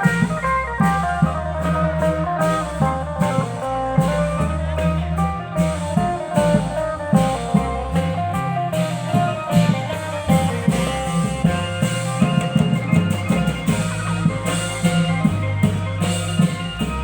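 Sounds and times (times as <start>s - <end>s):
bass line: 0.0s - 17.0s
plucked string melody: 0.0s - 17.0s
steady drum beat: 0.0s - 17.0s.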